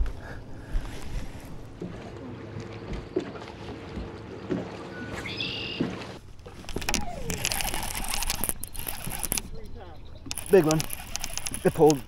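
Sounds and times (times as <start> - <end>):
boat low hum: 0.0 - 12.0.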